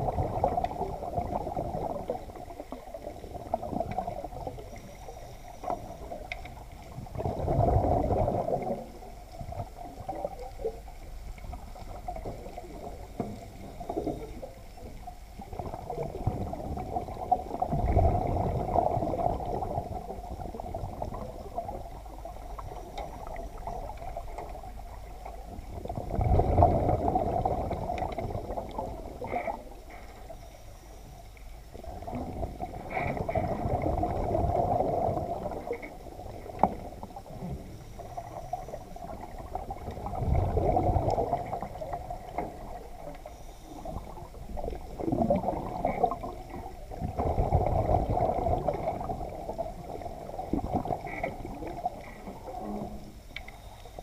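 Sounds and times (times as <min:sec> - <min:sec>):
muffled underwater rush: 0:00.0 - 0:54.0.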